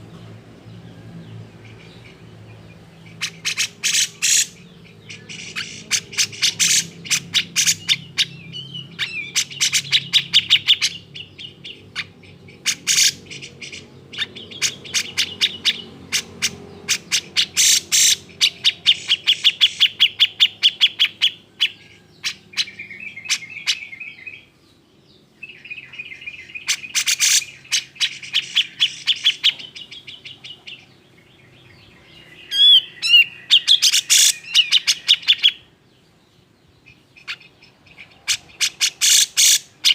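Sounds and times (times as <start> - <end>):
bulbul chattering calls: 0.0 - 24.5, 25.2 - 39.9.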